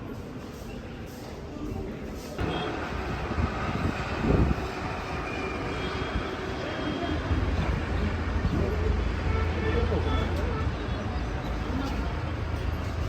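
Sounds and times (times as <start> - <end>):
faint voices: 0.0 - 13.0
motor traffic rumble: 2.4 - 13.0.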